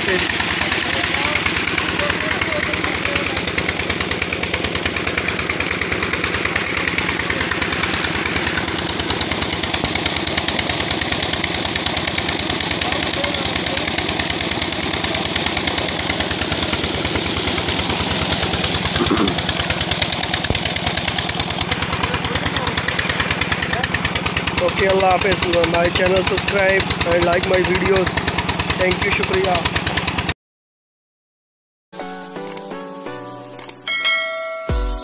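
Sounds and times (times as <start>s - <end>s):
diesel engine chugging: 0.0s - 30.4s.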